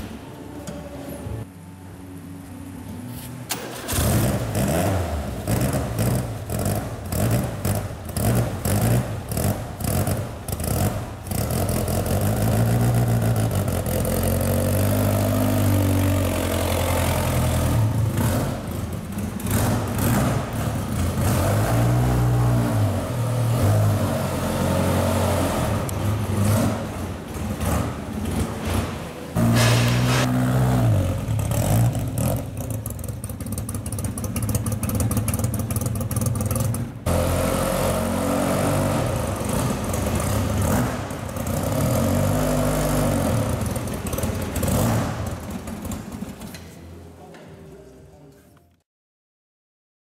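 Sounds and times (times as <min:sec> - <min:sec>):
car engine starting and revving: 0:03.5 - 0:46.5.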